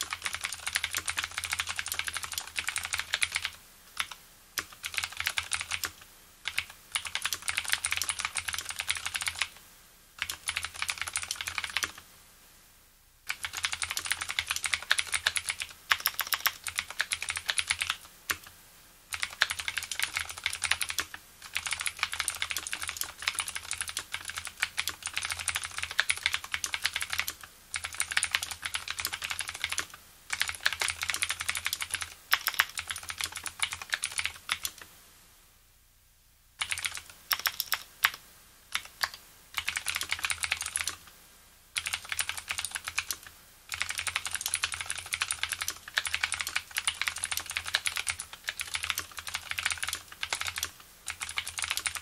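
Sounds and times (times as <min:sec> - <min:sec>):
mechanical keyboard typing: 0:00.0 - 0:09.6, 0:10.2 - 0:12.0, 0:13.3 - 0:18.5, 0:19.1 - 0:34.9, 0:36.6 - 0:41.1, 0:41.8 - 0:52.0.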